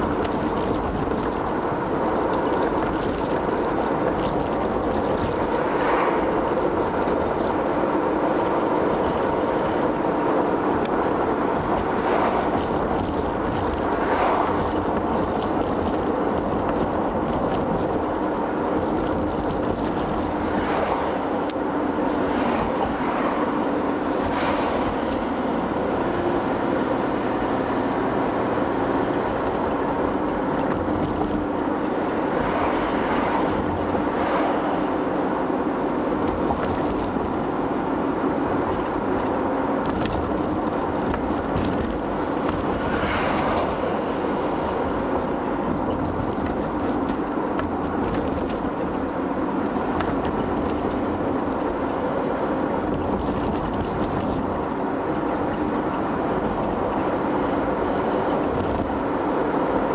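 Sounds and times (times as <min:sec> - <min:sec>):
car engine and tyre noise: 0:00.0 - 0:59.9
oncoming cars passing: 0:00.0 - 0:59.9.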